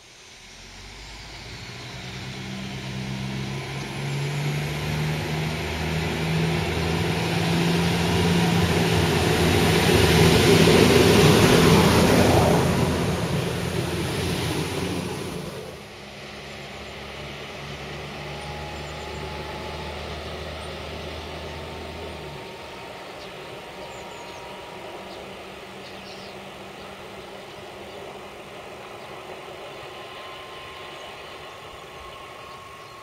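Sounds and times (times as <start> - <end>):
train engine hum: 0.0 - 33.0
train wheels rumbling on track: 0.0 - 33.0.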